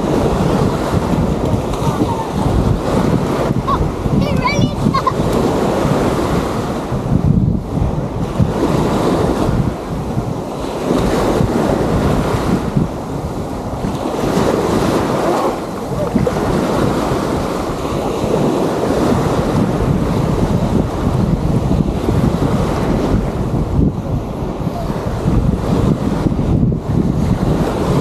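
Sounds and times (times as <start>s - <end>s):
waves washing onto sandy beach: 0.0s - 28.0s
wind buffeting microphone: 0.0s - 28.0s.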